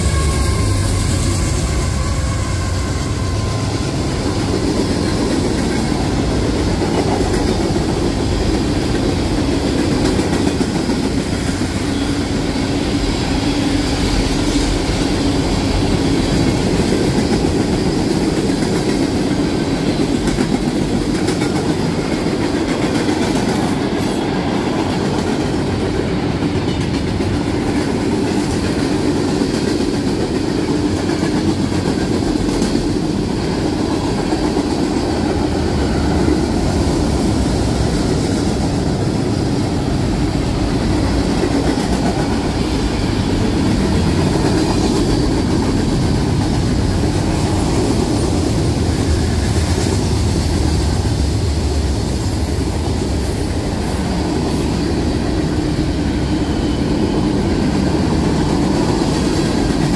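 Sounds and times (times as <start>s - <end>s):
freight train cars rolling past: 0.0s - 59.9s
clickety-clack over rail joints: 3.1s - 59.9s.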